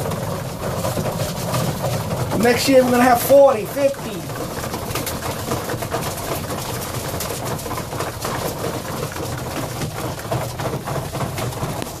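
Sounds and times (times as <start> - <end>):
pigeons pecking grain on wood: 0.0 - 12.0.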